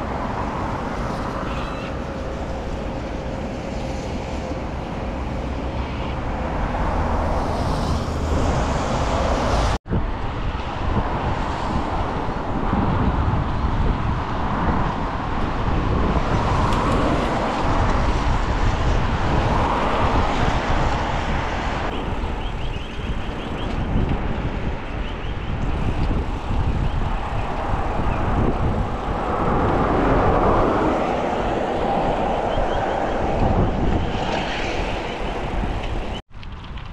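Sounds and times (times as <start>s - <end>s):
traffic on a wet road: 0.0s - 36.9s
wind on the microphone: 0.0s - 36.9s.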